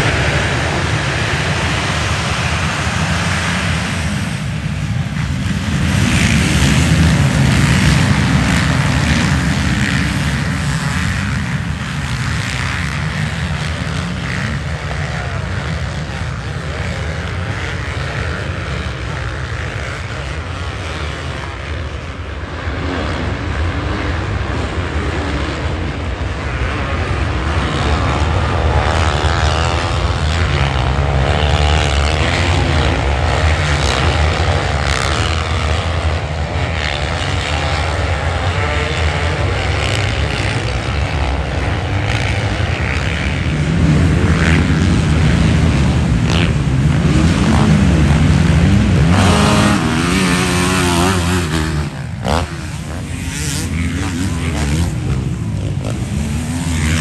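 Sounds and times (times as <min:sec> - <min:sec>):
motocross bike engines racing: 0:00.0 - 0:57.0
motorbike revving: 0:00.0 - 0:57.0.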